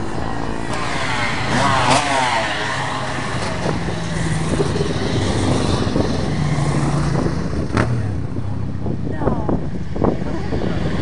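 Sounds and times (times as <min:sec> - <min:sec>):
distant racing motorcycle engines: 0:00.0 - 0:11.0.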